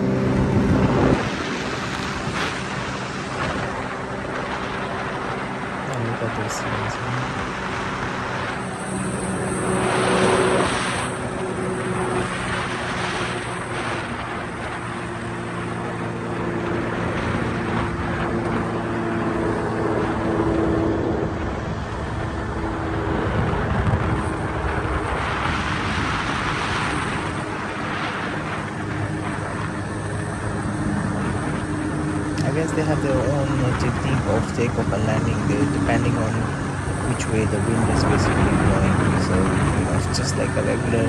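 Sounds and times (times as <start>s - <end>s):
paraglider engine and propeller: 0.0s - 41.0s
wind rushing over microphone: 0.0s - 41.0s.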